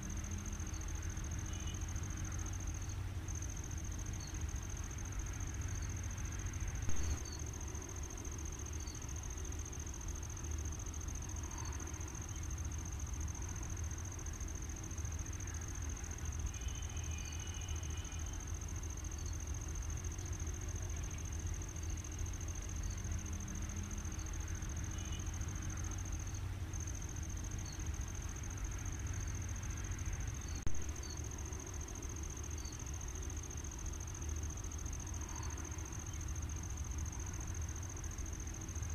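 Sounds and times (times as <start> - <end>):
high-pitched insect trill: 0.0 - 38.9.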